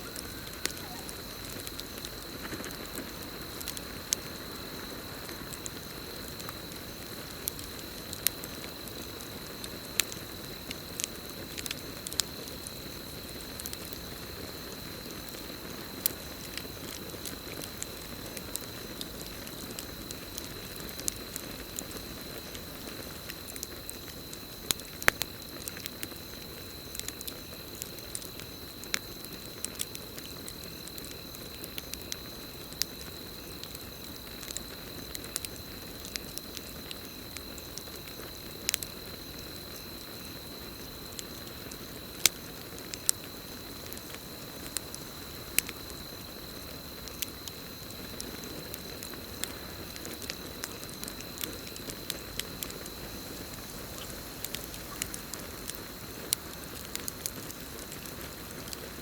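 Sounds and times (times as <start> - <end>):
campfire crackling and popping: 0.0 - 59.0
crickets trilling: 0.0 - 59.0.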